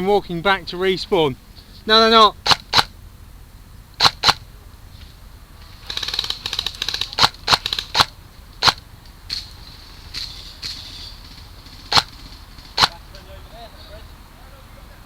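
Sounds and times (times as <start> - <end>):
airsoft guns firing: 0.0 - 3.0, 3.9 - 13.3.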